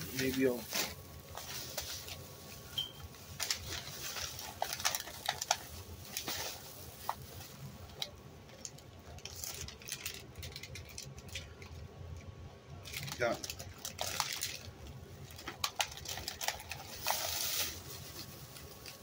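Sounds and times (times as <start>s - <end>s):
plastic packaging crinkling: 0.0s - 11.8s, 12.8s - 19.0s.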